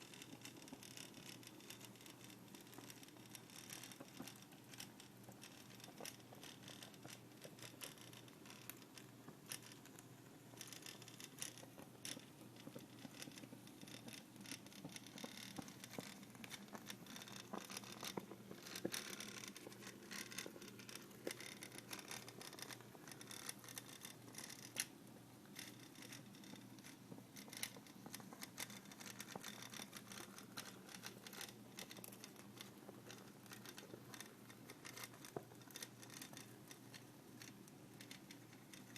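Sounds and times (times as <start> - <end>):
toy steam boat crackling ticks: 0.0 - 38.9.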